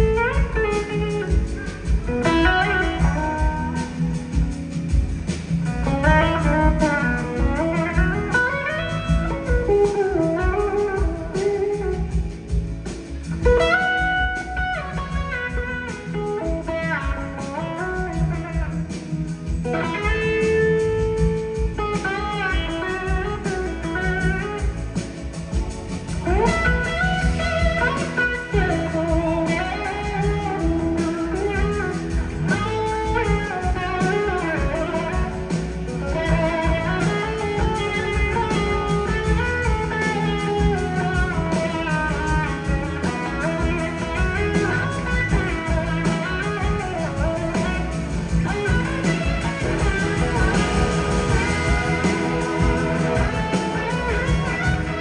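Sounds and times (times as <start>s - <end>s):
electric guitar solo: 0.0s - 25.6s, 26.2s - 55.0s
blues-rock band playing: 0.0s - 55.0s.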